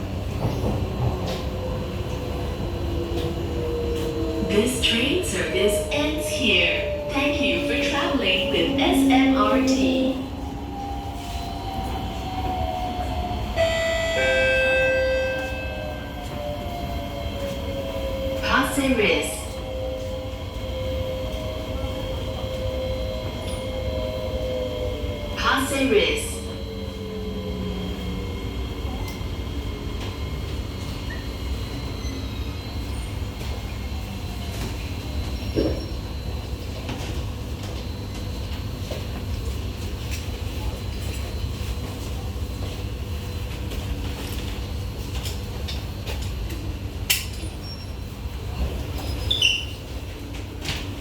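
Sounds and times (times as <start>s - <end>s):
train running rumble and whine: 0.0s - 51.0s.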